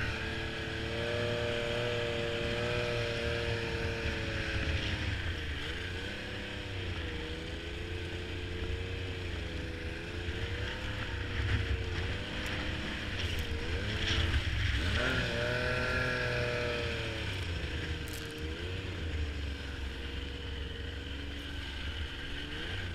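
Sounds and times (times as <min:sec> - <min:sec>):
snowmobile engine running: 0:00.0 - 0:22.9.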